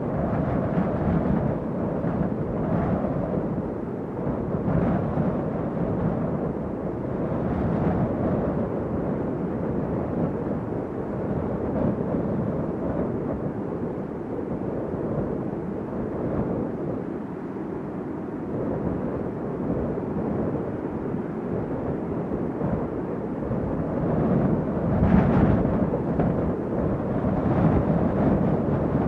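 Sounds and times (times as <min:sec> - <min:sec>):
strong wind blowing: 0:00.0 - 0:29.0.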